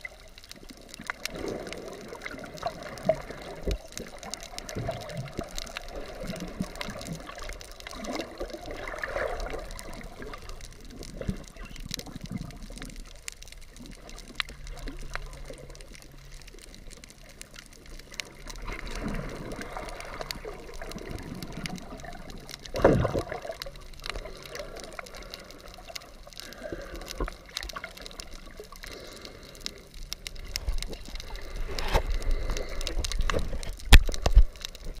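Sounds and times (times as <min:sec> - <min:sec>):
water gurgling and sloshing: 0:00.0 - 0:35.0.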